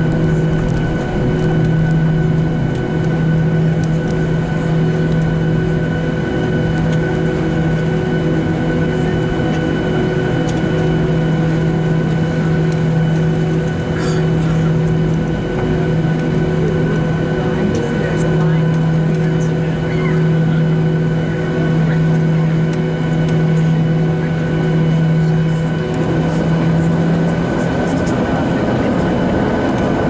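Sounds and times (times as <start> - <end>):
jet engines humming in cabin: 0.0 - 30.0.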